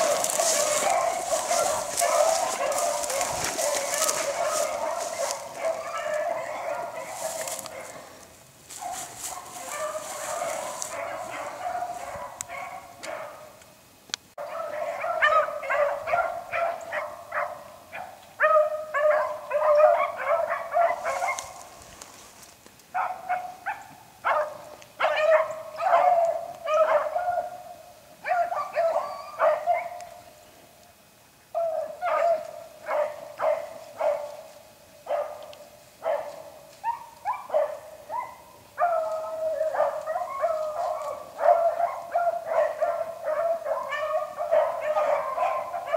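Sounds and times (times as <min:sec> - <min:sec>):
dogs baying and barking: 0:00.0 - 0:13.6, 0:14.4 - 0:22.3, 0:23.0 - 0:30.2, 0:31.5 - 0:45.9.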